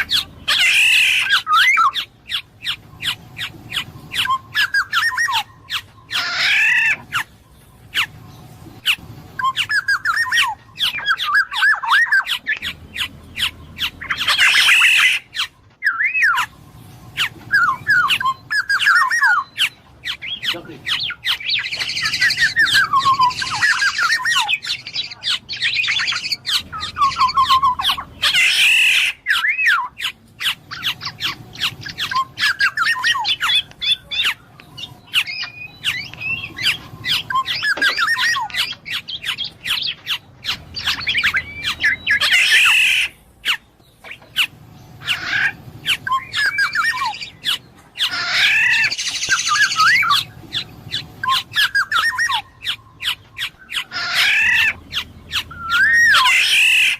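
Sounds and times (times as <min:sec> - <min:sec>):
harsh rasping squawks: 0:00.0 - 0:56.9
oriole whistling and clicking: 0:00.1 - 0:08.2, 0:08.8 - 0:16.6, 0:17.2 - 0:28.5, 0:29.3 - 0:44.5, 0:45.9 - 0:56.9.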